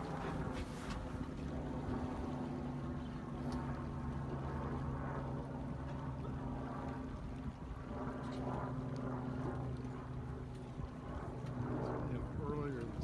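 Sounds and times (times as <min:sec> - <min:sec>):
boat engine humming: 0:00.0 - 0:13.0
wind: 0:00.0 - 0:13.0.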